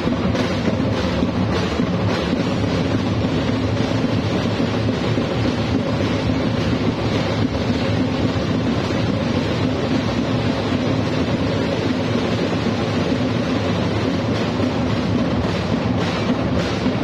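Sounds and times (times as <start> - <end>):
drum and percussion band playing: 0.0 - 17.0.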